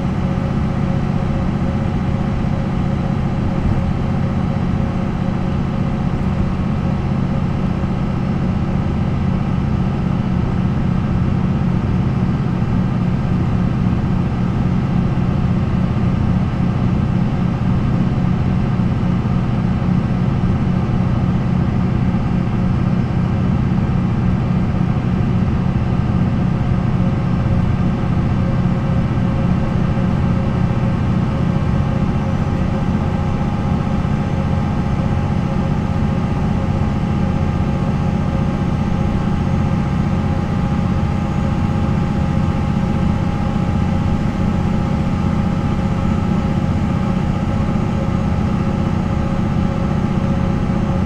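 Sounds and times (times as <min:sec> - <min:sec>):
diesel bus engine running: 0:00.0 - 0:51.0.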